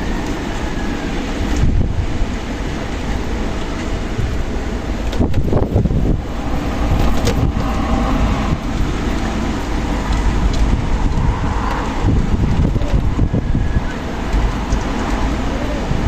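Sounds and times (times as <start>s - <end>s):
strong wind gusts: 0.0s - 16.0s.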